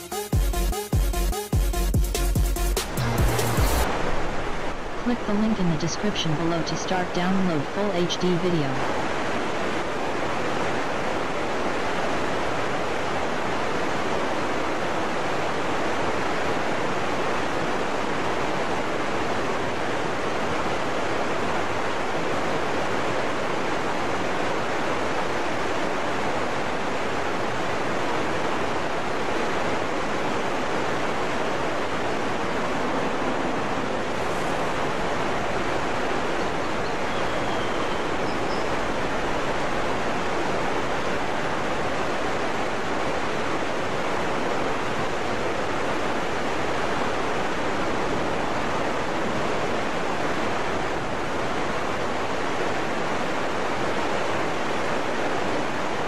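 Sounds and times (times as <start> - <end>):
waterfall rushing: 2.9 - 56.0.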